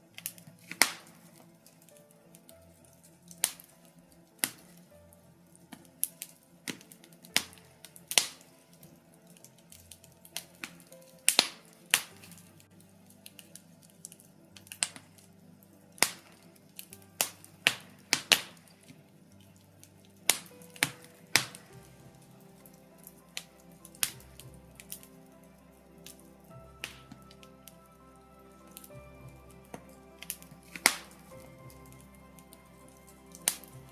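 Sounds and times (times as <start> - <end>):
logs crackling and popping: 0.0 - 33.9
soft background music: 0.0 - 33.9.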